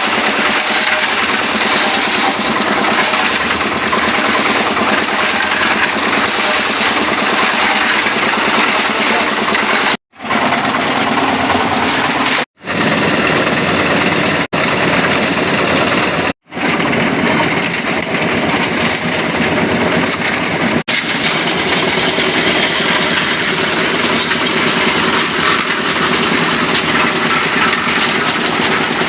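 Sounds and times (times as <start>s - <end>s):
concrete mixer running: 0.0s - 29.0s.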